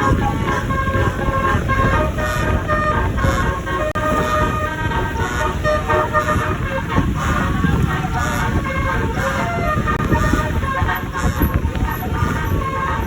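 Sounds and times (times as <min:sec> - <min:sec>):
bus engine and road rumble: 0:00.0 - 0:13.0
bus musical horn melody: 0:00.0 - 0:13.0.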